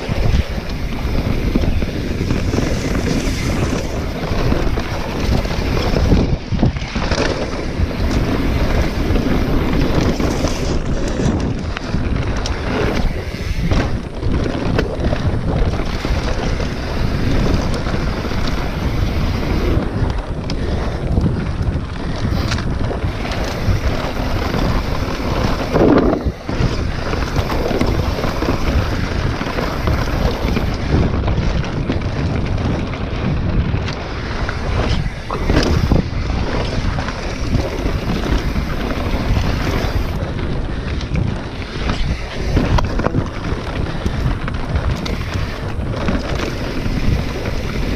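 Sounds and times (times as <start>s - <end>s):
tyres rumbling over trail: 0.0s - 47.9s
wind buffeting microphone: 0.0s - 47.9s.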